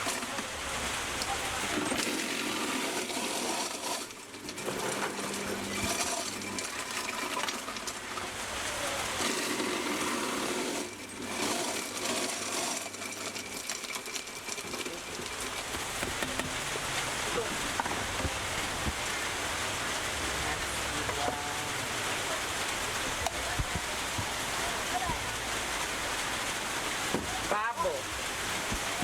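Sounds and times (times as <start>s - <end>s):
electric blender running: 0.0s - 27.2s
steady rain: 0.0s - 29.0s.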